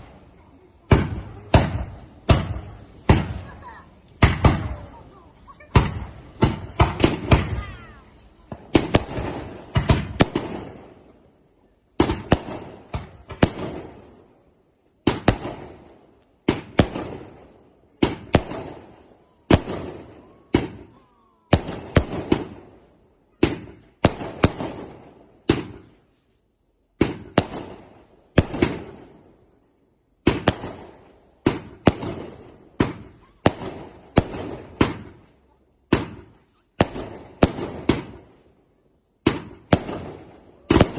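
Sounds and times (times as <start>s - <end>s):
fireworks exploding: 0.0s - 40.9s.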